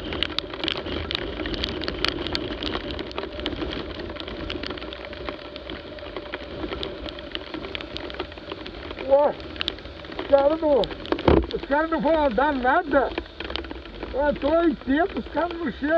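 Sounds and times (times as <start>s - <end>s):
motorcycle engine running: 0.0s - 15.9s
raindrops striking camera: 0.0s - 15.9s
wind and road noise: 0.0s - 15.9s.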